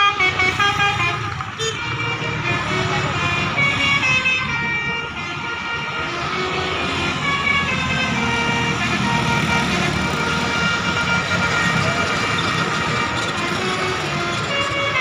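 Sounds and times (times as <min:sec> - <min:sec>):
bus engine rumble: 0:00.0 - 0:15.0
musical bus horn: 0:00.0 - 0:15.0.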